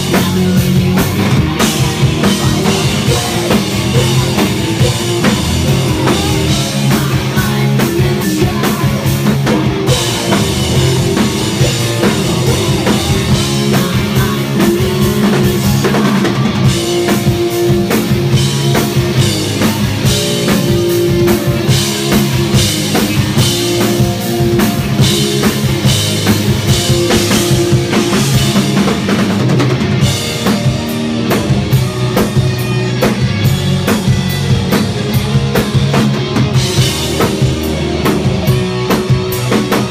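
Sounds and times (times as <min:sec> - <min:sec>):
driving drum beat: 0:00.0 - 0:39.9
electric bass: 0:00.0 - 0:39.9
electric guitar: 0:00.0 - 0:39.9.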